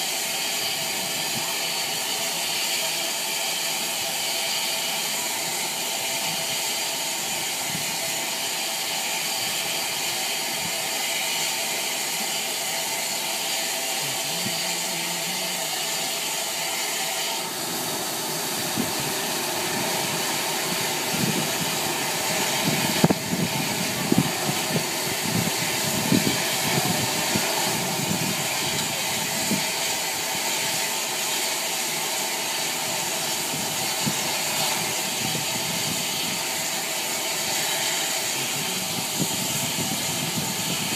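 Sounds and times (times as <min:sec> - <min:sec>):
steam hissing from locomotive: 0:00.0 - 0:40.9.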